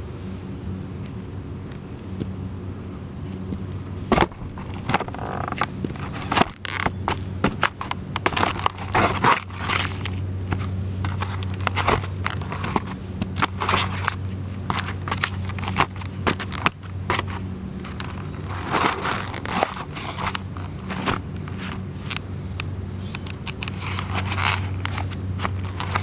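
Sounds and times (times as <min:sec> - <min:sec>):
low hum: 0:00.0 - 0:26.0
cardboard crunching underfoot: 0:03.4 - 0:22.3, 0:23.0 - 0:26.0.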